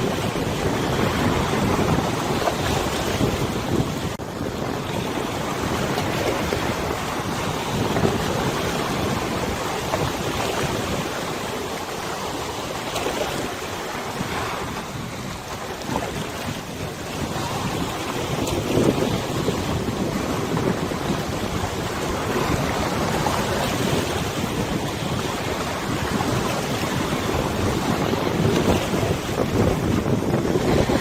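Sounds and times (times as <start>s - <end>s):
river water rushing: 0.0s - 31.0s
wind gusting on microphone: 0.0s - 31.0s.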